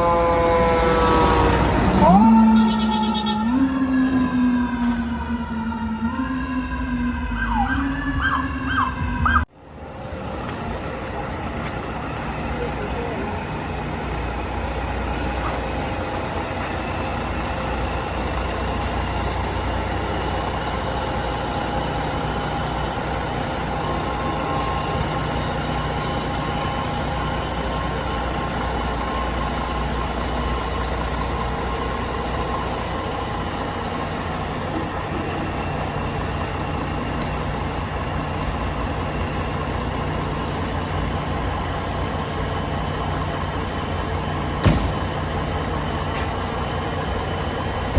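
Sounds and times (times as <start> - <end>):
truck engine idling: 0.0 - 5.3, 9.4 - 47.9.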